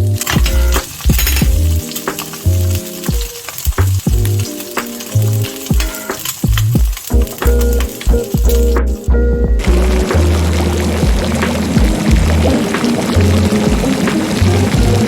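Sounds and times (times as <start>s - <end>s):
egg sizzling in a pan: 0.0s - 9.0s, 9.6s - 15.0s
background music with beat: 0.0s - 15.0s.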